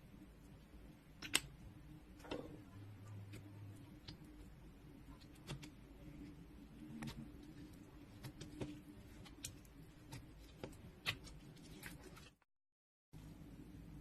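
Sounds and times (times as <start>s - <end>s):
low steady hum: 0.0s - 12.4s, 13.2s - 14.0s.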